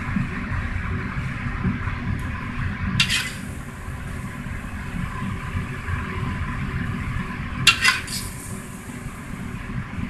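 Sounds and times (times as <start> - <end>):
wok burner rumble and hiss: 0.0 - 10.0.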